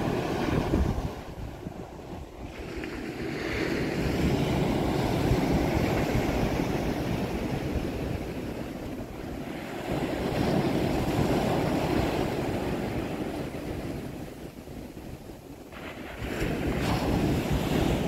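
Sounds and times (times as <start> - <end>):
surf breaking on beach: 0.0 - 14.5, 15.5 - 18.0.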